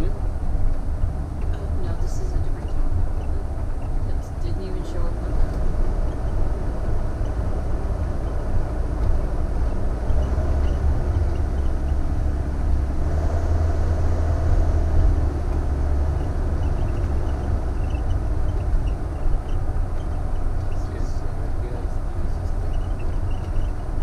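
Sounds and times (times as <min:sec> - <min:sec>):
motorhome road and engine rumble: 0:00.0 - 0:24.0.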